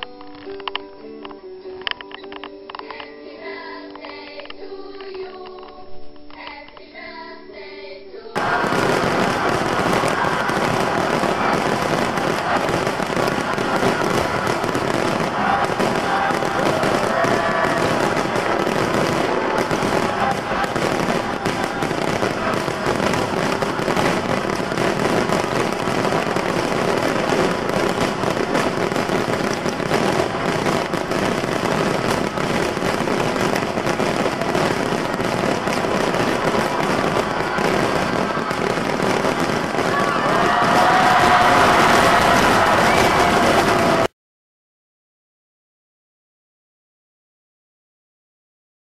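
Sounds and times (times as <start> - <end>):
fireworks crackling and popping: 0.0 - 3.1, 3.8 - 7.0, 8.4 - 44.1
people's voices: 0.0 - 44.1.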